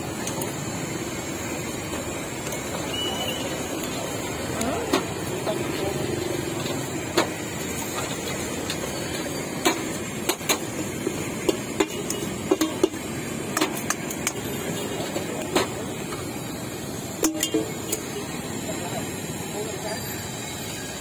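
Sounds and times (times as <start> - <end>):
street noise hum: 0.0 - 21.0.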